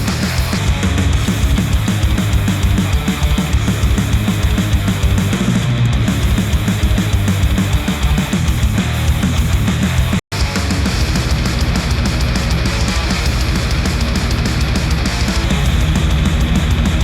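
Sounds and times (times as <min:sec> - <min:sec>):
heavy distorted rock music: 0:00.0 - 0:17.0.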